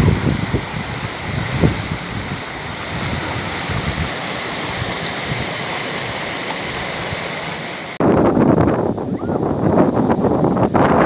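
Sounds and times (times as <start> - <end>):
wind buffeting microphone: 0.0 - 7.3, 8.0 - 11.0
water cascading over rock: 0.0 - 11.0.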